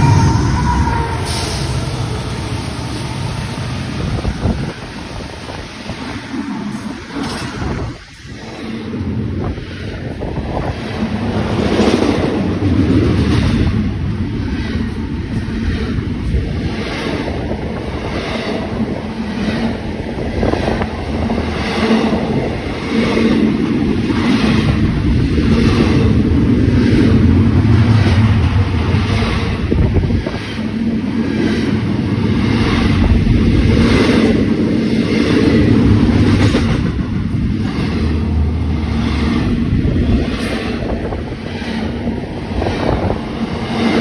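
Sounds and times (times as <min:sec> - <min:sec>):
train rumbling and clattering: 0:00.0 - 0:44.0.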